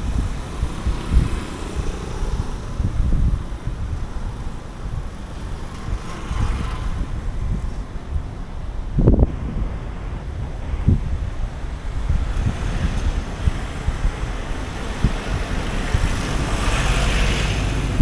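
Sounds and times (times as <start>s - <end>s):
street traffic hum: 0.0s - 18.0s
wind buffeting microphone: 0.0s - 18.0s.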